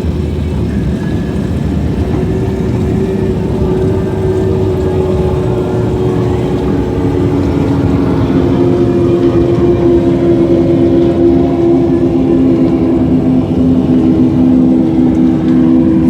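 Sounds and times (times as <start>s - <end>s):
lower engine note: 0.0s - 16.0s
powerboat engines droning: 0.0s - 16.0s
water and wind rumble: 0.0s - 16.0s.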